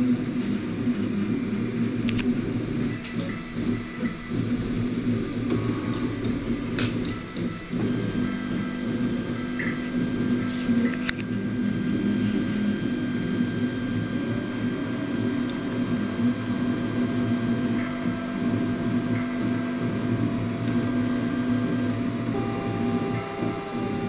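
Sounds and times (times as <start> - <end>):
printer mechanical hum: 0.0 - 24.0
stepper motor whines: 0.0 - 24.0.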